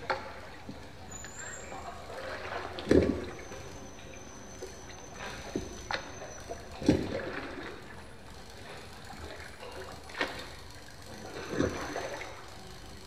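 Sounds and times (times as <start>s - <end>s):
water splashing and gurgling: 0.0s - 13.0s.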